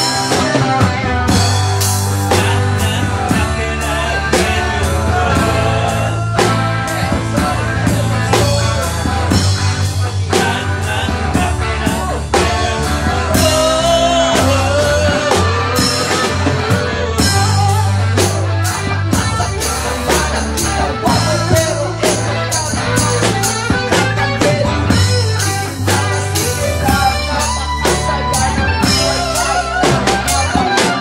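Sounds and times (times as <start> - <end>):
bending melody line: 0.0 - 31.0
live rock band jamming: 0.0 - 31.0.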